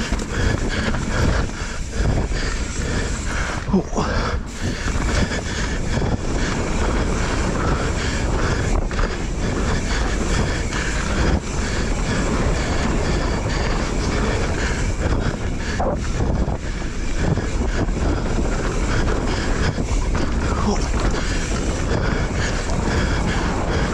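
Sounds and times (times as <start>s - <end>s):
bike tyres rattling over dirt: 0.0s - 23.9s
wind buffeting microphone: 0.0s - 23.9s.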